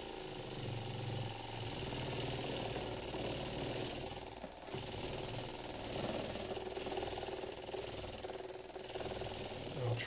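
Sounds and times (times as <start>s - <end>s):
magnets rapidly knocking against coil: 1.3s - 10.0s.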